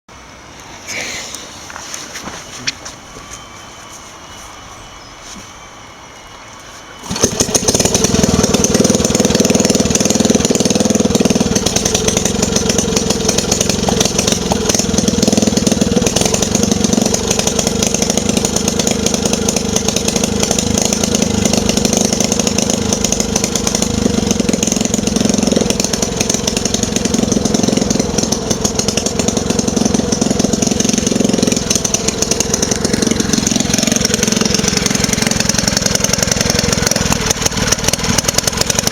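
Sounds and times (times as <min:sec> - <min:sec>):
engine starting and running: 0:00.1 - 0:38.9.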